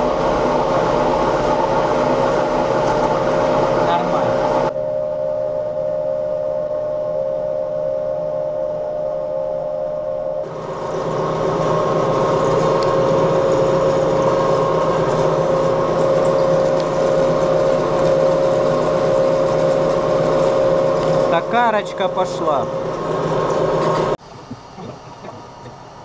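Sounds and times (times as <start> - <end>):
metal lathe whining: 0.0 - 26.0.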